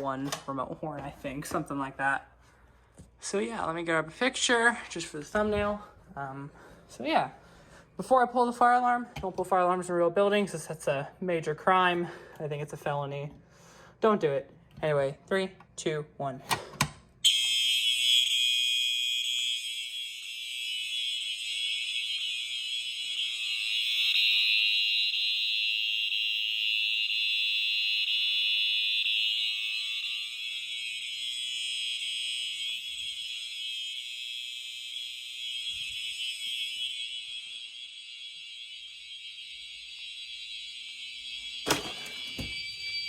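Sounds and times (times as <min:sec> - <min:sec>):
fire alarm horns continuous tone: 0:00.0 - 0:43.0.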